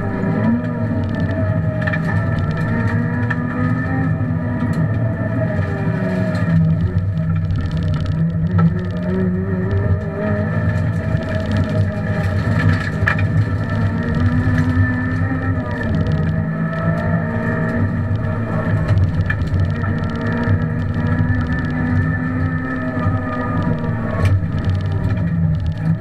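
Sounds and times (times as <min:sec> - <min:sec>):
car engine running hard: 0:00.0 - 0:26.0
road and tyre noise: 0:00.0 - 0:26.0.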